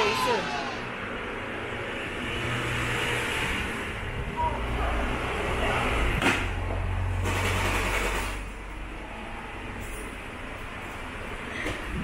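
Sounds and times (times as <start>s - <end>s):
arcade hum and noise: 0.0s - 12.0s.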